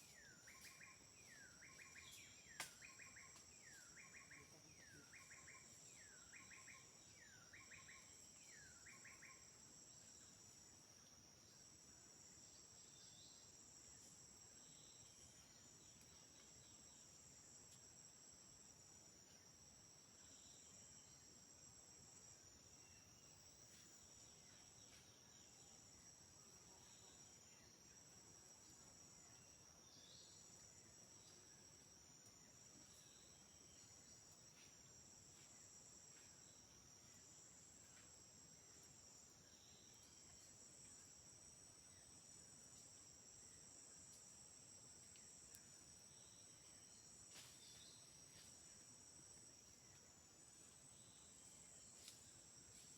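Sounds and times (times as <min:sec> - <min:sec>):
high-pitched insect trill: 0:00.0 - 0:52.9
pulsing insect trill: 0:00.0 - 0:52.9
short faint insect calls: 0:00.0 - 0:52.9.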